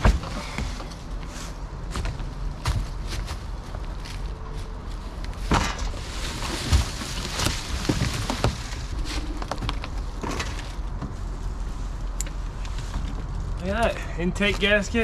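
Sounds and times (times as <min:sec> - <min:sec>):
knocks clunks and scraping: 0:00.0 - 0:15.0
steady low rumble: 0:00.0 - 0:15.0.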